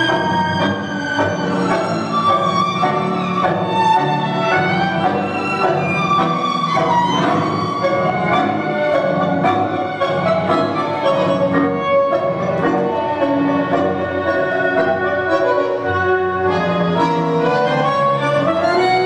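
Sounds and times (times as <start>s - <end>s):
tango music: 0.0s - 19.0s.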